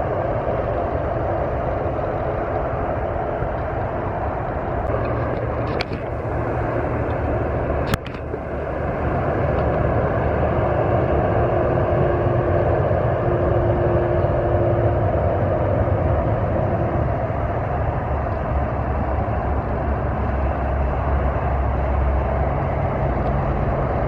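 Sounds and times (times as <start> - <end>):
heavy truck engine running: 0.0 - 24.0
road noise: 0.0 - 24.0.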